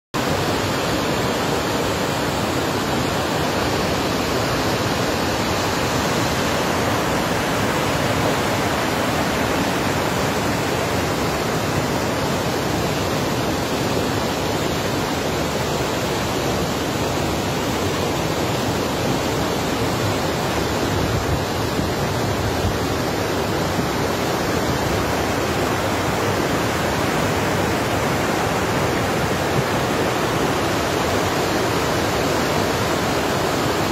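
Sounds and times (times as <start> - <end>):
river water rushing: 0.2 - 33.9.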